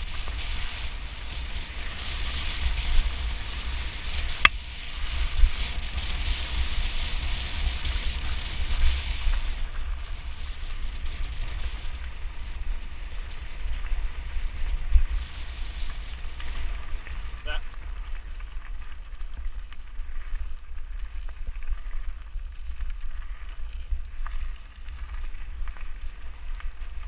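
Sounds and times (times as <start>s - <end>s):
tyres rolling on gravel: 0.0s - 27.0s
wind buffeting microphone: 0.0s - 27.0s.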